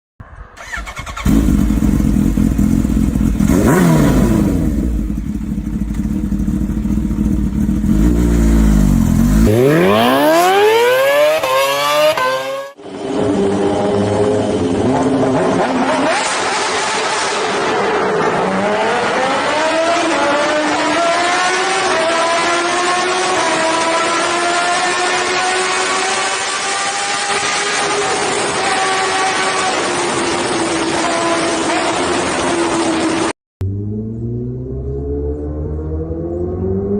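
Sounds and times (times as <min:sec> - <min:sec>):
motorcycle engine accelerating: 0:00.6 - 0:36.9.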